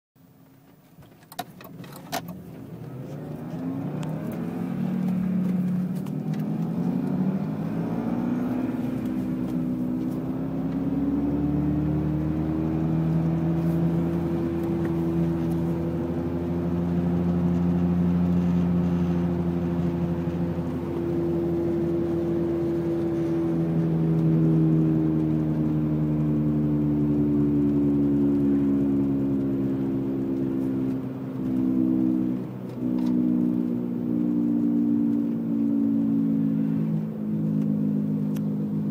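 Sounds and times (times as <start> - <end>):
car differential whining: 0.2 - 38.9.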